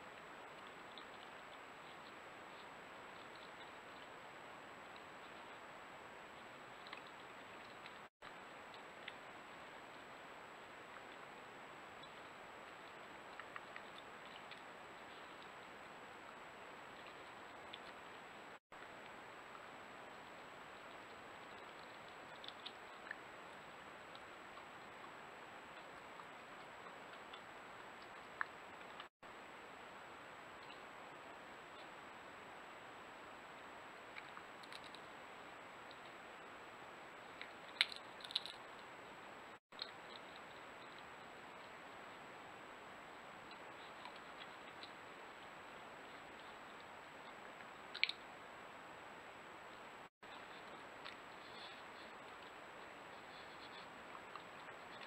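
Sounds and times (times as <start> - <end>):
microphone hiss: 0.0 - 55.0.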